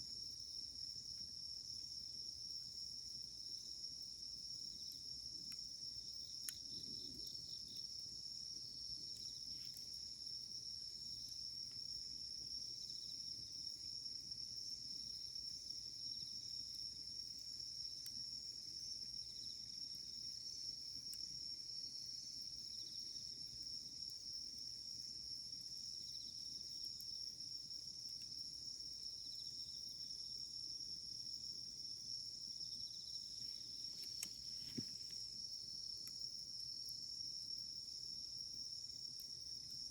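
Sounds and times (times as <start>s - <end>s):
crickets chirping: 0.0s - 39.9s
campfire crackling: 0.1s - 39.9s.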